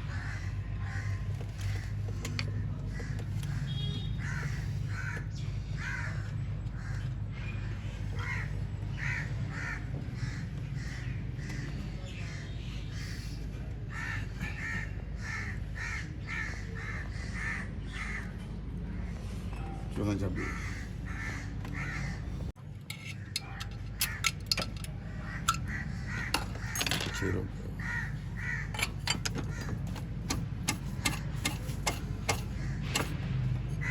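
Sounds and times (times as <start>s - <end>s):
crows cawing: 0.0s - 13.2s, 13.9s - 19.3s, 20.1s - 33.9s.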